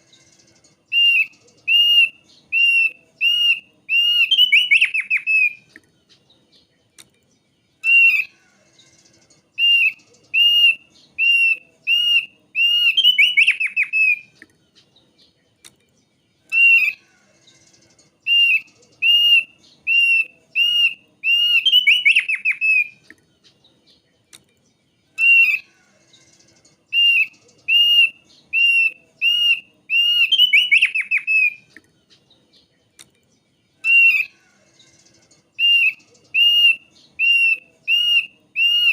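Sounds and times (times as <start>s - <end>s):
bird whistling song: 0.0s - 15.4s, 16.4s - 24.0s, 25.1s - 32.3s, 33.8s - 38.9s.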